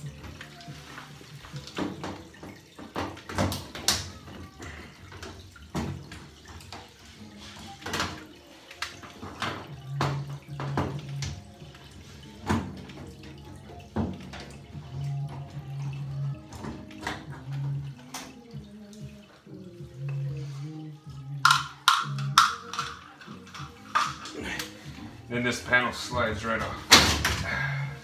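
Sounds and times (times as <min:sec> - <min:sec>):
water splashing into bucket: 0:00.0 - 0:28.0.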